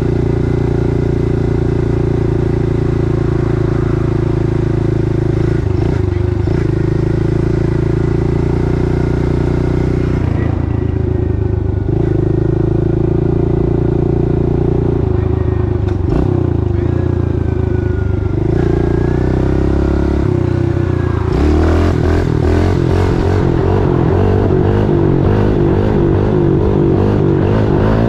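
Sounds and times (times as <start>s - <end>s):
small motorbike engine running: 0.0s - 28.0s.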